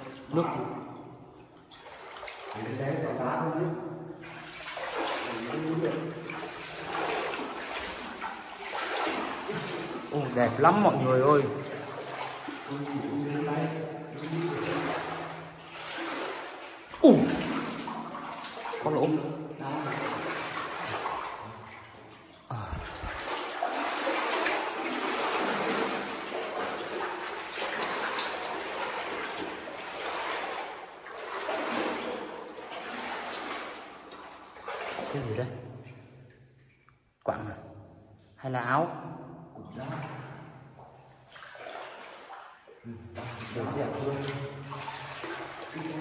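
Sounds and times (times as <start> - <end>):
people wading through water: 0.0 - 37.4, 38.2 - 46.0.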